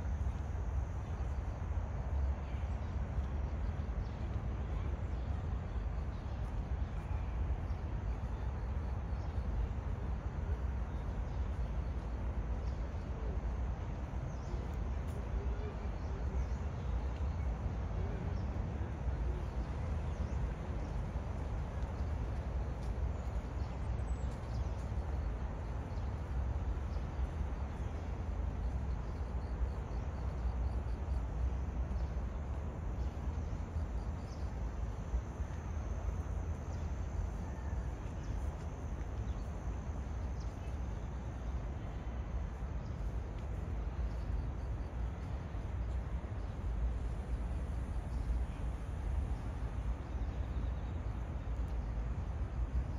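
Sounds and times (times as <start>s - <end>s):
low outdoor rumble: 0.0s - 52.9s.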